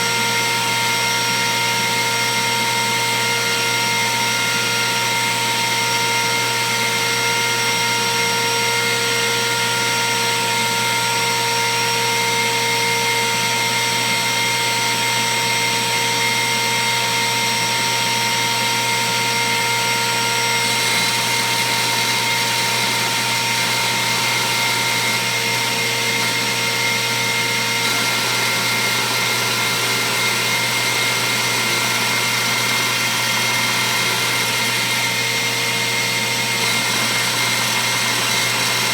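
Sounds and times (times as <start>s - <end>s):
router milling acrylic: 0.0s - 38.9s.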